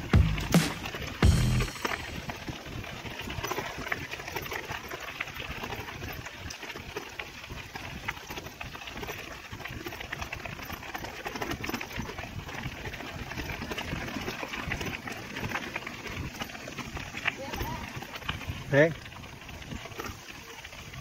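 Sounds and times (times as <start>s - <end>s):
bike clicks and rattles: 0.0s - 21.0s.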